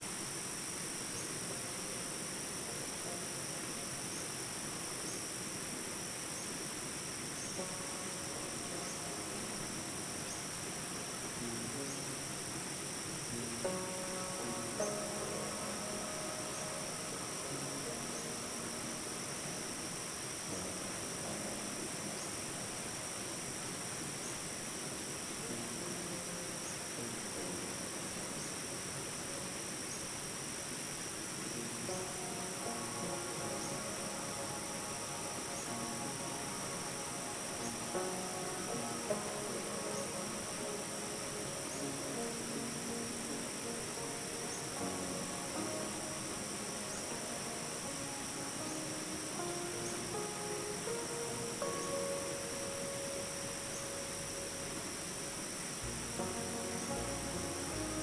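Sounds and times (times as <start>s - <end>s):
crickets trilling: 0.0s - 58.0s
dense hiss: 0.0s - 58.0s
insects shrilling: 0.0s - 58.0s.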